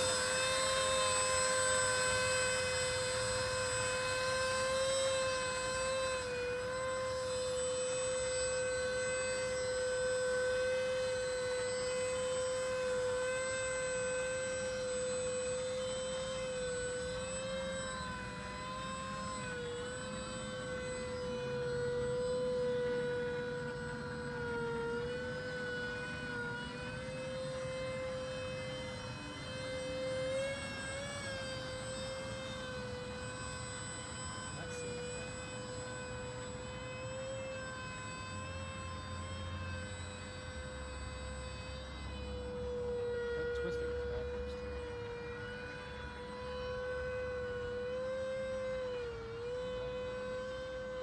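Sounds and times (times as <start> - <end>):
model aircraft propellers whining: 0.0 - 51.0.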